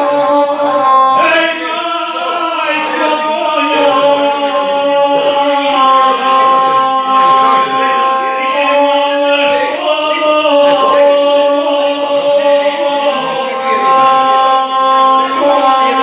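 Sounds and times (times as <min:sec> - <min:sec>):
bowed single-string instrument drone: 0:00.0 - 0:16.0
person chanting epic singing: 0:00.0 - 0:16.0.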